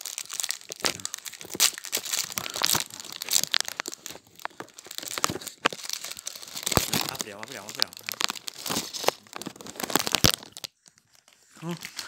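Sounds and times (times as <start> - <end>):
foil and plastic wrapping crackling: 0.0 - 12.0.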